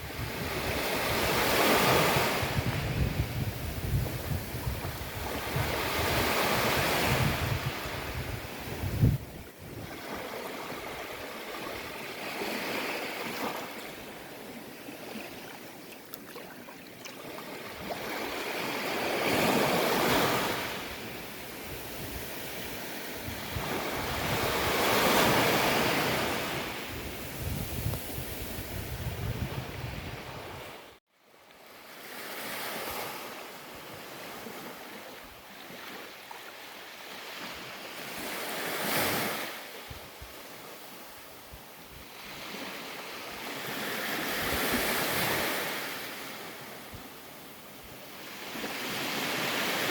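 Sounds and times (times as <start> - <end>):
ocean waves breaking on beach: 0.0 - 31.0, 31.6 - 49.9.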